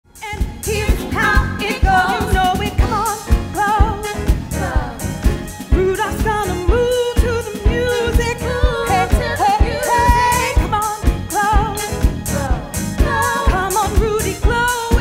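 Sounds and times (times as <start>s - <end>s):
live band playing: 0.1s - 15.0s
steady drum beat: 0.1s - 15.0s
women singing pop song: 0.2s - 15.0s.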